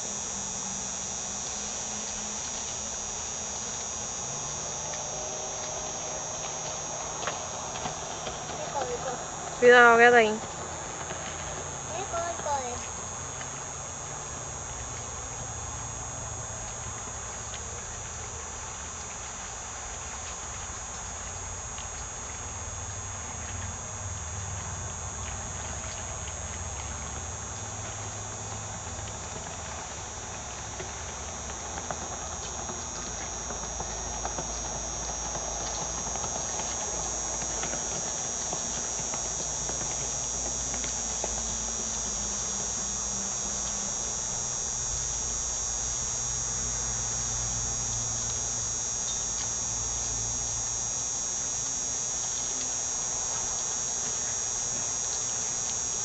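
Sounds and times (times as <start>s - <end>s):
jet ski buzzing whine: 0.0s - 56.0s.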